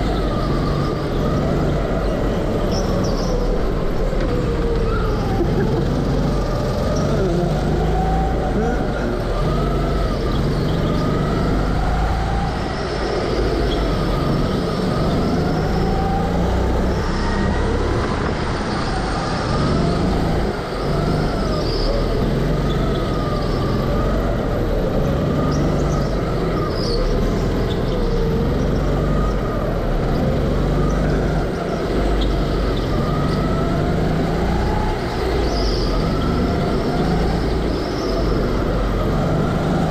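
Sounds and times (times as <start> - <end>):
go-kart engine at speed: 0.0 - 39.9.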